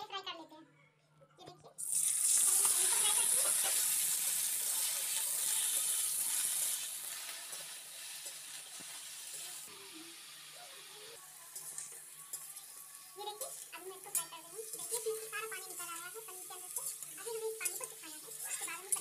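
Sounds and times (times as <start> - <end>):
cheese sizzling in hot oil: 1.8 - 19.0.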